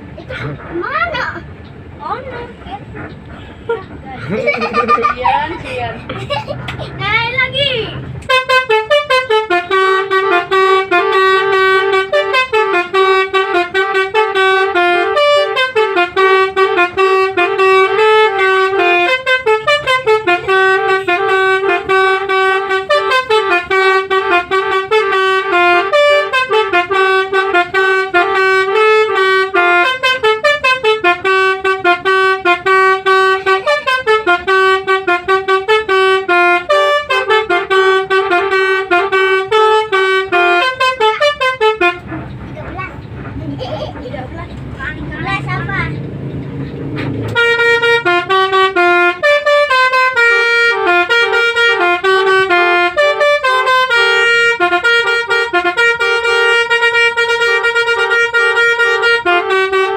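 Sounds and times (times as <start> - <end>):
bus musical horn melody: 1.8 - 59.9.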